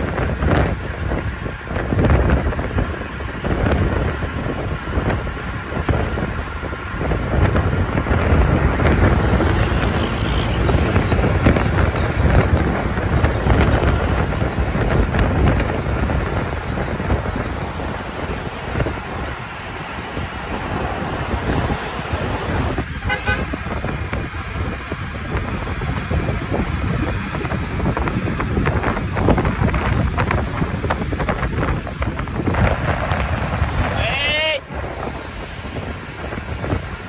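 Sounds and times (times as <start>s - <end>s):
road traffic: 0.0s - 37.0s
wind buffeting microphone: 0.0s - 37.0s.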